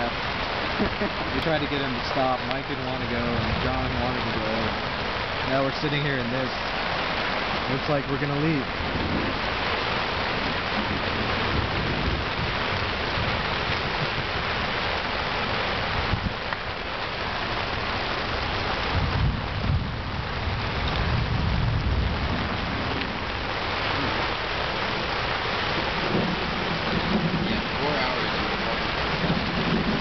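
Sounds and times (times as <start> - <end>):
heavy rain on fabric roof: 0.0 - 30.0.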